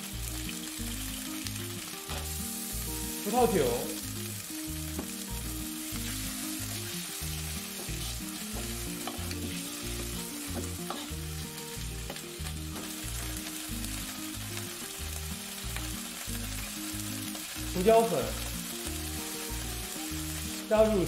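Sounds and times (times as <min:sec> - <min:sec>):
liquid sizzling in hot oil: 0:00.0 - 0:21.0.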